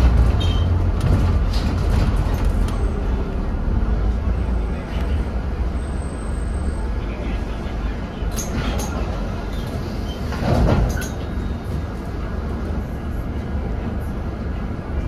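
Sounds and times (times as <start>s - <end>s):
bus diesel engine rumble: 0.0s - 15.0s
road noise: 0.0s - 15.0s.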